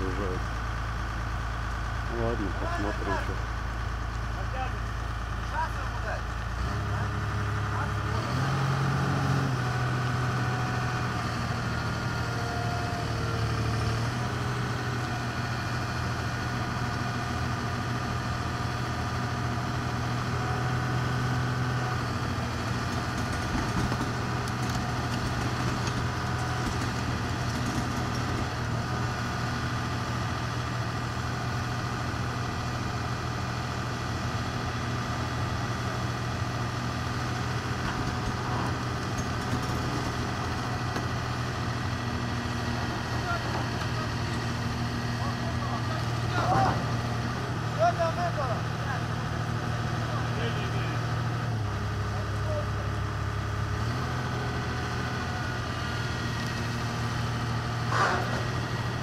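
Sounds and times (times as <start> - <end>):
diesel engines idling: 0.0 - 59.0.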